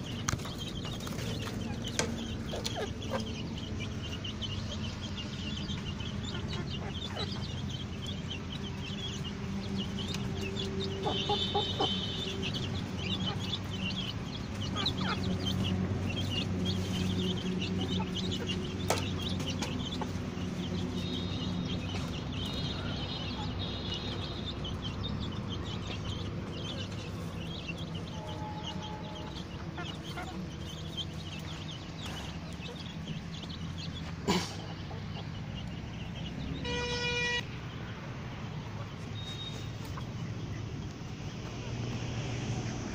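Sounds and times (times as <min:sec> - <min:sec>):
chickens clucking and peeping: 0:00.0 - 0:42.9.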